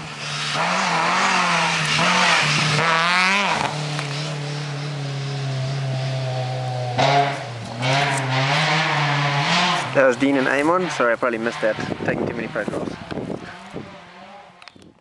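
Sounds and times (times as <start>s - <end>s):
rally car engine revving: 0.0s - 14.8s.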